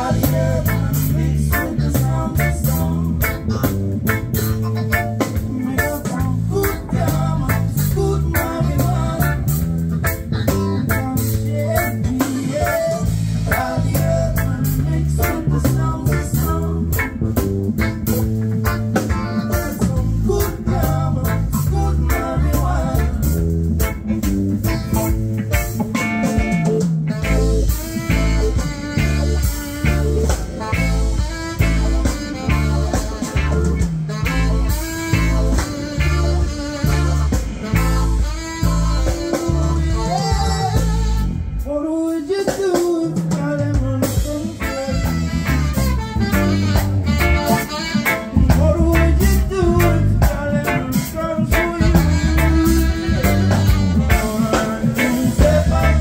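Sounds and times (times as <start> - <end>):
person singing: 0.0 - 17.2, 18.7 - 24.0, 25.9 - 56.0
reggae band playing: 0.0 - 56.0.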